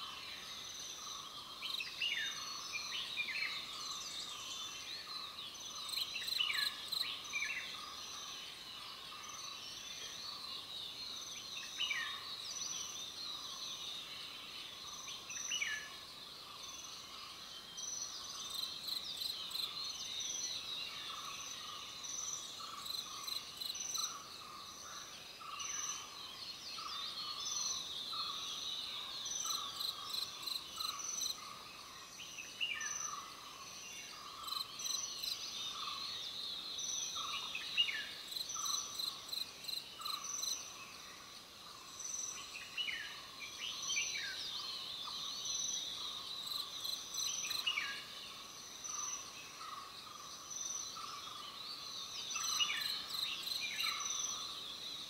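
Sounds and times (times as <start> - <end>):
insects and crickets chirping: 0.0 - 55.0.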